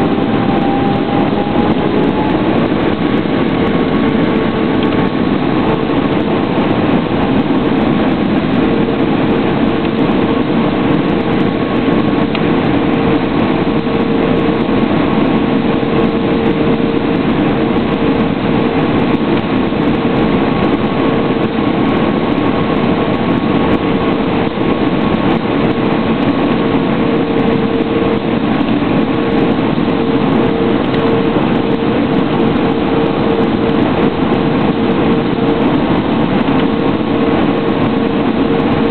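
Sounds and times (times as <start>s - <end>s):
airliner cabin air rush: 0.0s - 38.9s
steady engine hum: 0.0s - 38.9s.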